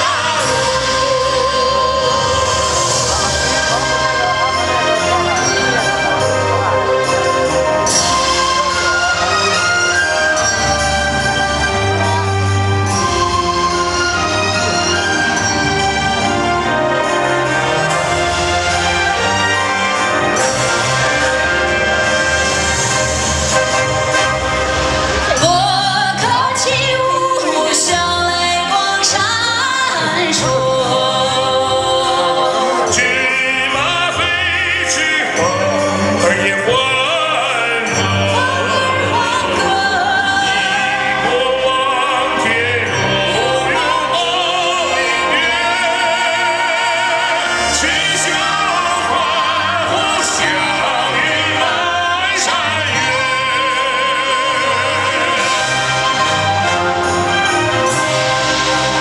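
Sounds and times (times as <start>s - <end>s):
man and woman singing duet: 0.0s - 22.8s, 25.3s - 59.0s
musical accompaniment: 0.0s - 59.0s.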